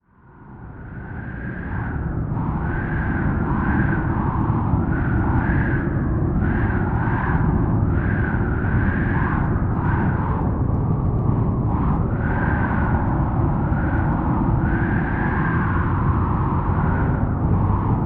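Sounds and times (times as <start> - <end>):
howling wind: 0.0 - 18.0.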